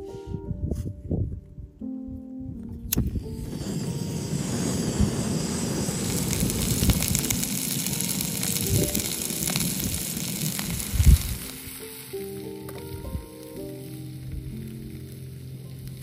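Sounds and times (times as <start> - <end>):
gas stove hissing: 2.9 - 16.0.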